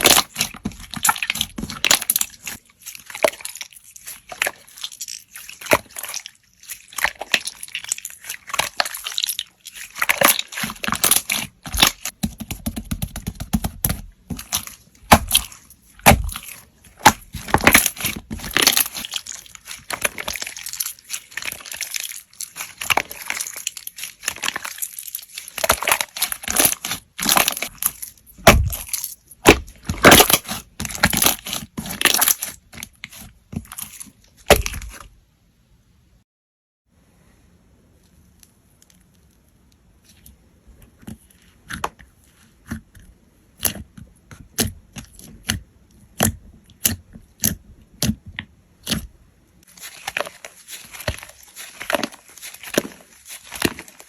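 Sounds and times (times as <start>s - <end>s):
slime squelching by hand: 0.0s - 35.2s, 38.1s - 54.0s.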